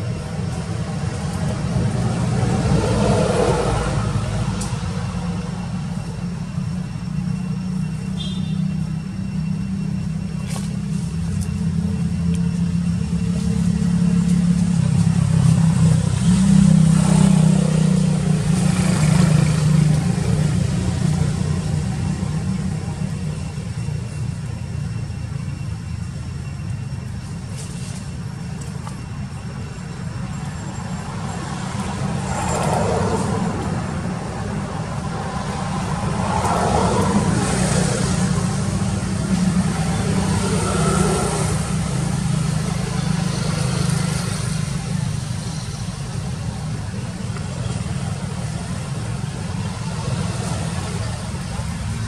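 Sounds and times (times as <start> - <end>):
traffic noise: 0.0 - 52.0
vehicle engines humming: 0.0 - 52.0.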